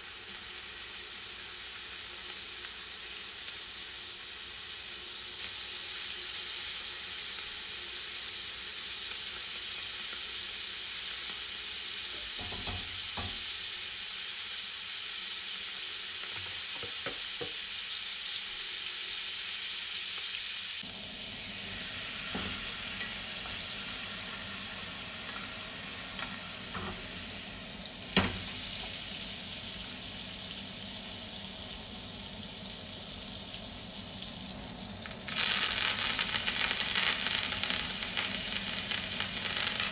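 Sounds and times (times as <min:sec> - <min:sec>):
steak sizzling in butter: 0:00.0 - 0:39.9.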